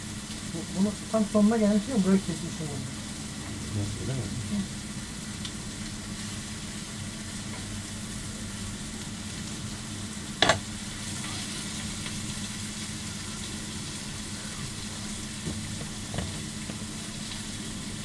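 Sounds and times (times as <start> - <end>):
chicken sizzling on a griddle: 0.0 - 18.0.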